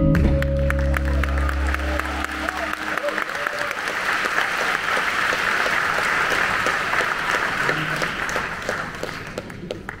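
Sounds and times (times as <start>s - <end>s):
audience applauding: 0.2s - 10.0s.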